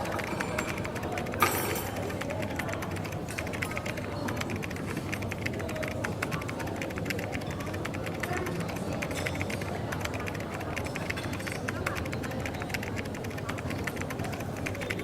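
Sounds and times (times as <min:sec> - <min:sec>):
murmur of background chatter: 0:00.0 - 0:15.0.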